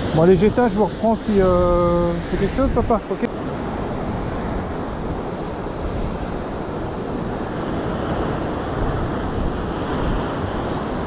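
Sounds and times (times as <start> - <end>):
rough surf breaking on rocks: 0.0 - 11.0.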